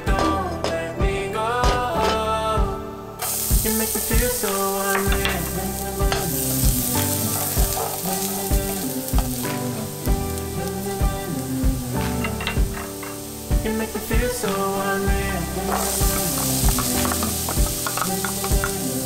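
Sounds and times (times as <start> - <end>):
garlic sizzling in oil: 3.2 - 19.0.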